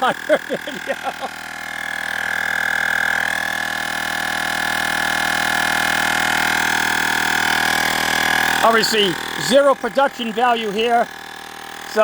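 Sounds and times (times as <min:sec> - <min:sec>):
portable air compressor pulsing hum: 0:00.0 - 0:12.0.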